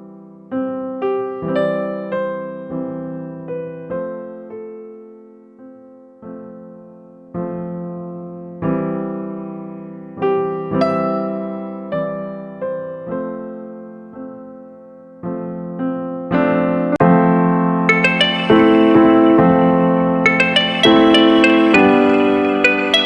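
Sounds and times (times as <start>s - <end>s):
soft electric piano music: 0.0s - 23.0s.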